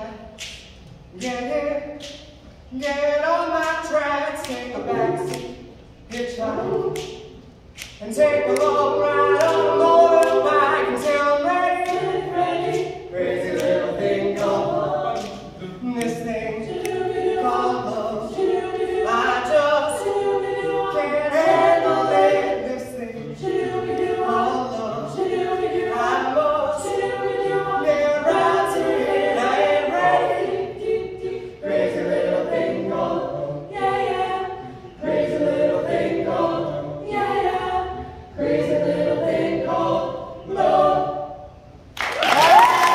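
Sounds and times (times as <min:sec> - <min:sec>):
a cappella group singing: 0:00.0 - 0:42.9.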